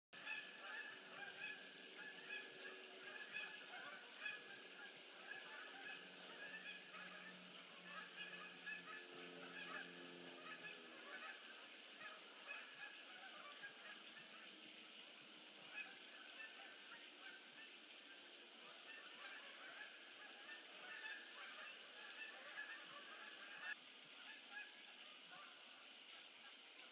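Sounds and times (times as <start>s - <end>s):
distant geese honking: 0.2s - 26.9s
low steady drone: 0.5s - 22.5s.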